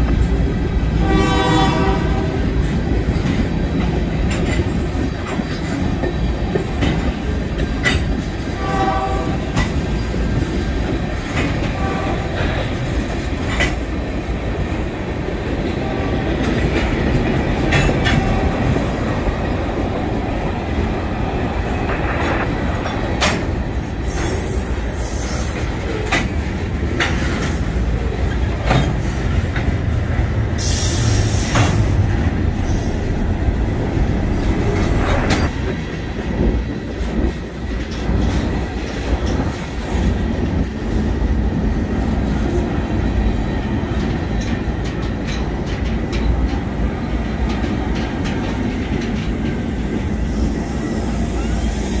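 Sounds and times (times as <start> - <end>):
wheels clacking over rail joints: 0.0 - 50.1
freight cars rumbling: 0.0 - 50.6.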